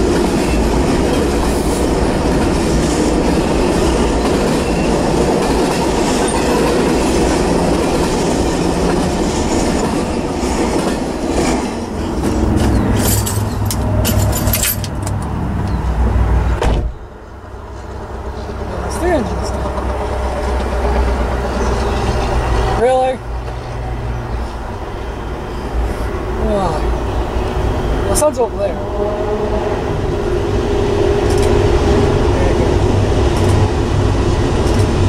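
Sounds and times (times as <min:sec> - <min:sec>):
freight train cars rolling past: 0:00.0 - 0:35.0.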